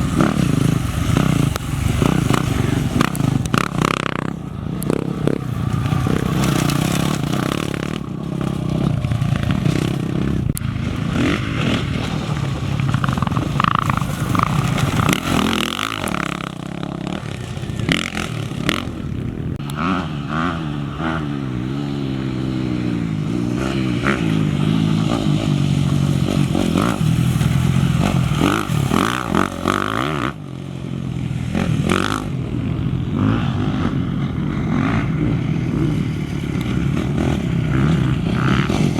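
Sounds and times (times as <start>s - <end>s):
motorcycle engines passing: 0.0s - 38.9s.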